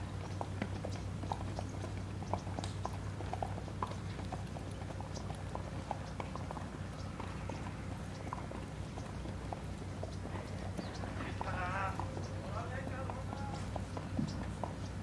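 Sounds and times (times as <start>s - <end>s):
hooves walking on dirt: 0.0s - 15.0s.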